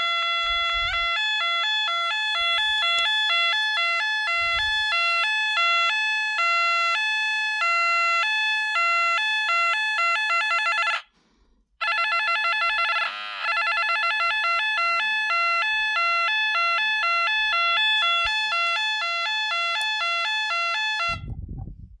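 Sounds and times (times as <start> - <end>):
two-tone alternating alarm: 0.0 - 11.1, 11.8 - 21.4.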